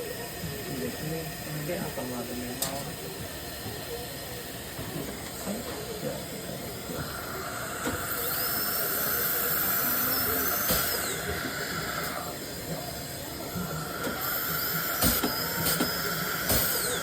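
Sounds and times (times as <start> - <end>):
dental drill whining: 0.0 - 17.0.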